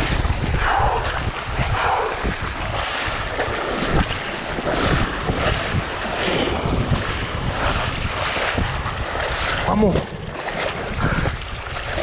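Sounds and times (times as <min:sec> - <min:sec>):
water splashing from wading: 0:00.0 - 0:12.0
wind buffeting microphone: 0:00.0 - 0:12.0.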